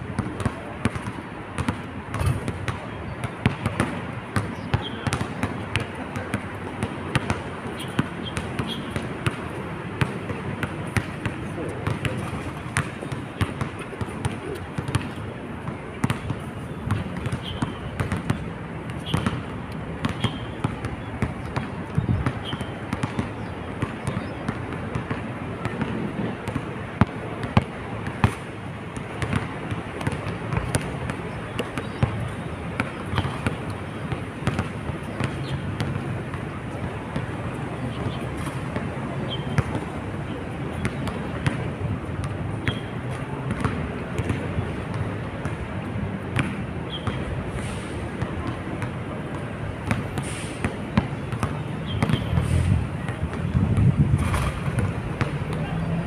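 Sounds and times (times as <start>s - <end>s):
basketball bouncing on hard court: 0.2s - 45.6s, 46.3s - 56.0s.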